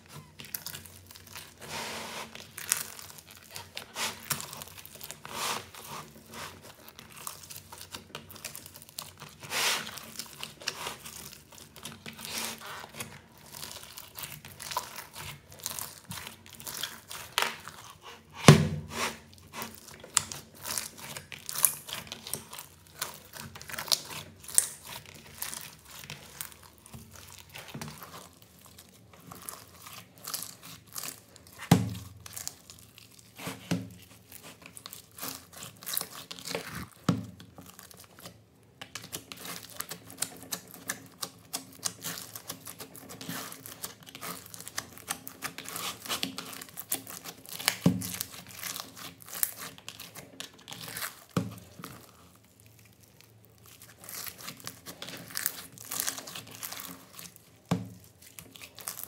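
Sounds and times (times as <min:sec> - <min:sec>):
slime crackling and popping: 0:00.0 - 0:01.6, 0:02.3 - 0:18.0, 0:19.2 - 0:59.0
slime squelches: 0:00.0 - 0:59.0.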